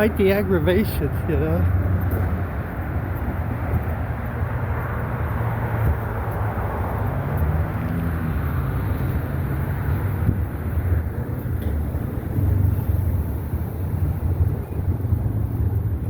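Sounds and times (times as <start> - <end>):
road traffic rumble: 0.0 - 16.0
vehicle engine drone: 0.0 - 16.0.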